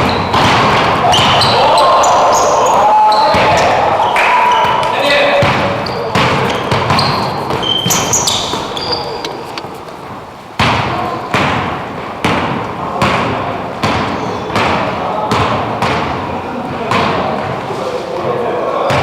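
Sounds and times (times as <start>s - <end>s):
basketball bouncing on court: 0.0s - 17.6s
players' voices: 0.0s - 19.0s.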